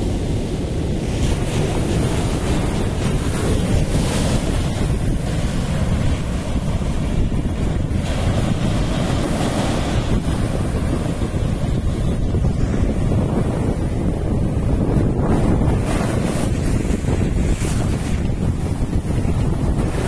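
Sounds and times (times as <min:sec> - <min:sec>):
ocean surf breaking on sand: 0:00.0 - 0:20.0
wind buffeting microphone: 0:00.0 - 0:20.0.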